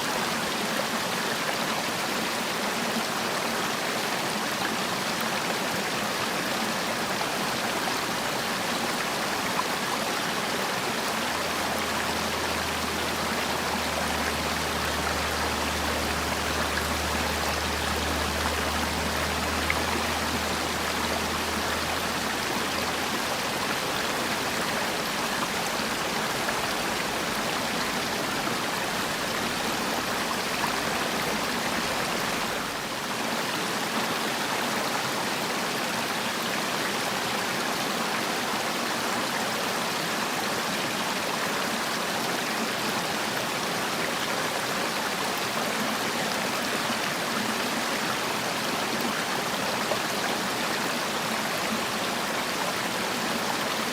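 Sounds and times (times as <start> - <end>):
stream running water: 0.0 - 53.9.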